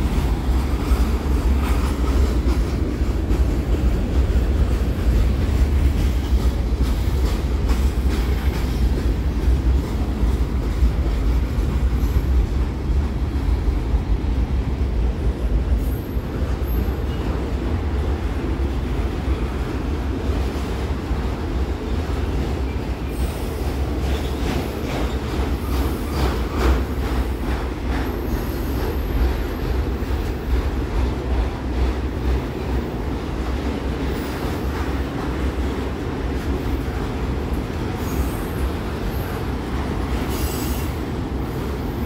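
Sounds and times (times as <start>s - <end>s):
freight train rumbling on rails: 0.0s - 42.0s.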